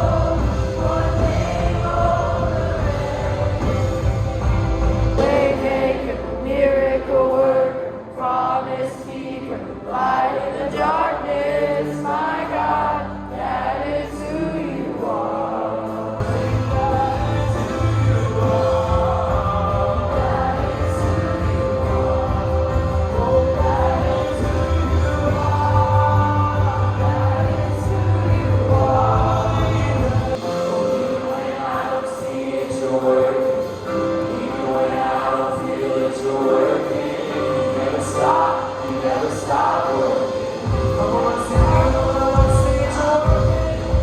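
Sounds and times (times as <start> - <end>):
band playing: 0.0 - 44.0
voices singing worship music: 0.0 - 44.0.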